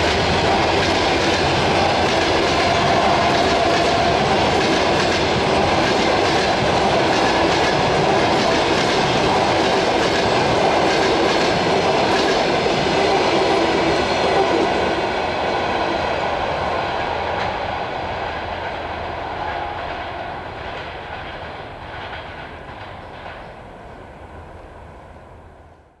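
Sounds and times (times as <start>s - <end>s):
train coaches rumbling on rails: 0.0s - 25.8s.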